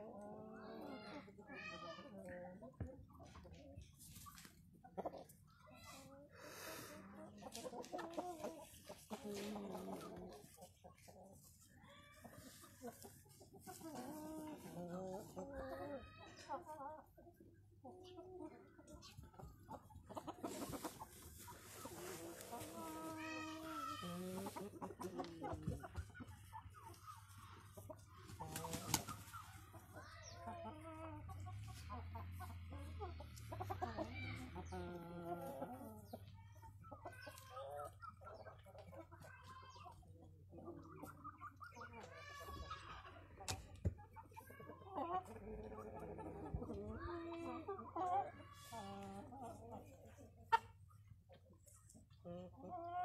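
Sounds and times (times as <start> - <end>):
chickens clucking: 0.0 - 53.0.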